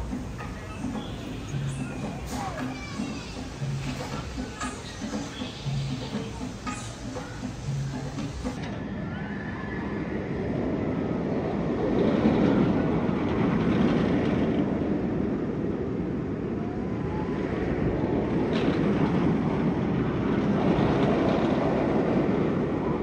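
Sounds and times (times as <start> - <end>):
roller coaster rumbling on track: 0.0 - 23.0.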